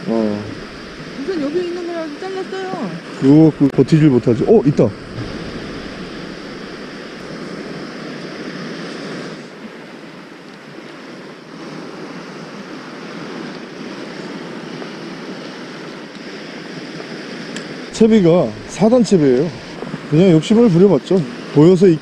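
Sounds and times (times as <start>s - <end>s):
small waves washing on sand: 0.0s - 22.0s.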